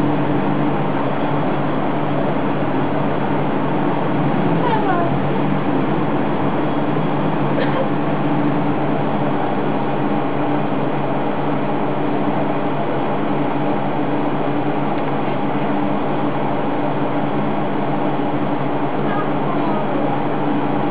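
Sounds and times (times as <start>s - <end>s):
mechanical hum and hiss: 0.0s - 20.9s.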